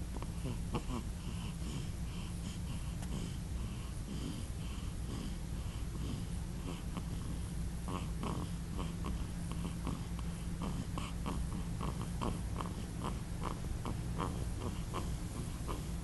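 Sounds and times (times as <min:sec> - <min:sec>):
small pet snoring: 0:00.0 - 0:16.0
steady low hum: 0:00.0 - 0:16.0.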